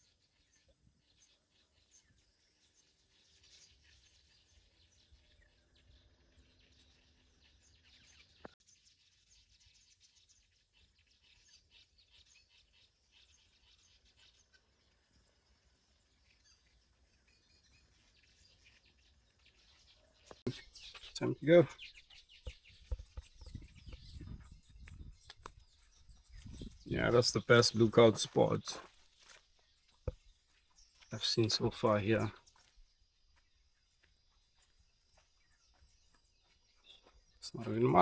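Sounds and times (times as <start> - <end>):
faint bird chirps: 0.0 - 38.0.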